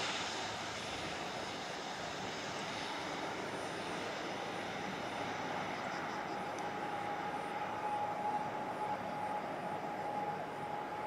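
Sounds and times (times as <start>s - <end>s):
high engine whine: 0.0s - 11.0s
turboprop engines roaring: 0.0s - 11.0s.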